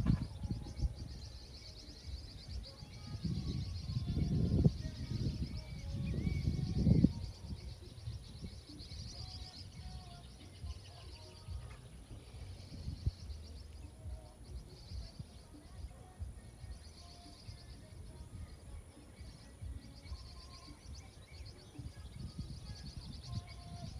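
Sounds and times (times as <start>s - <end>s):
birds singing and calling: 0.0s - 23.9s.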